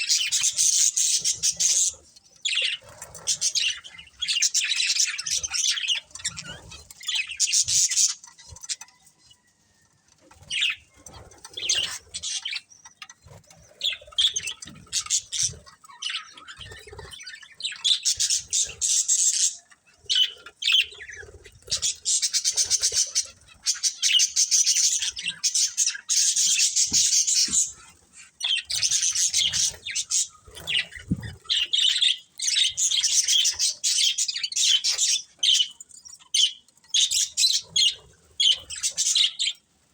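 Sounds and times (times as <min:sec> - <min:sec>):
budgerigars chirping: 0:00.0 - 0:08.9, 0:10.5 - 0:13.0, 0:13.7 - 0:39.7.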